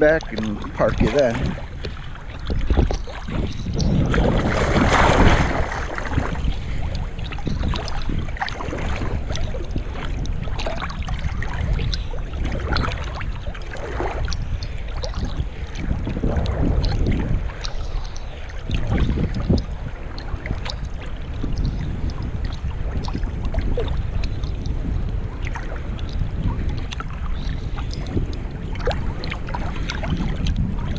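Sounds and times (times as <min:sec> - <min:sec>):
water drips: 0:00.0 - 0:30.9
water sloshing and splashing: 0:00.0 - 0:30.9
wind rumble on microphone: 0:00.0 - 0:30.9.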